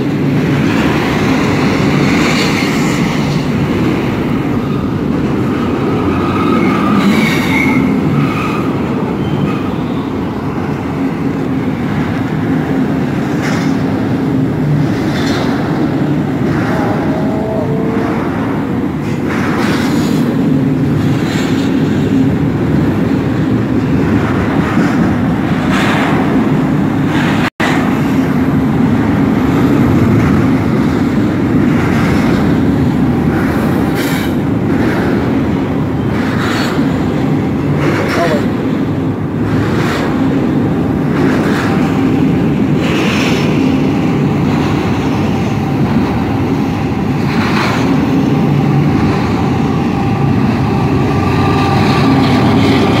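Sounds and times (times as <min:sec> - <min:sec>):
freight train wheels rumbling: 0:00.0 - 0:53.0
train cars clacking: 0:00.0 - 0:53.0.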